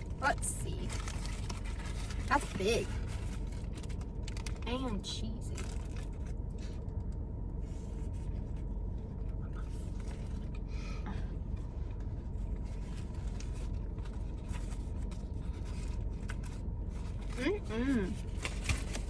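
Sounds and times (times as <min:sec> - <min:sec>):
car cabin low rumble: 0:00.0 - 0:19.0.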